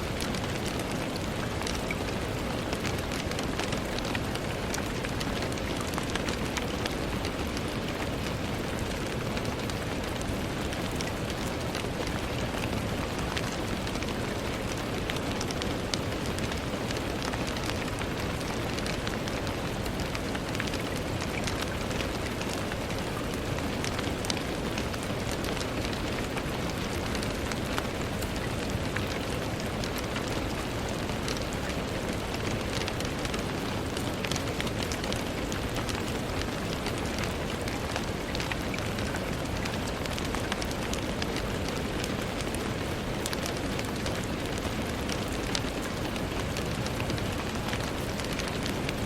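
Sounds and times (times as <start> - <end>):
low rush of rainfall: 0.0 - 49.0
raindrops pattering on window: 0.0 - 49.0.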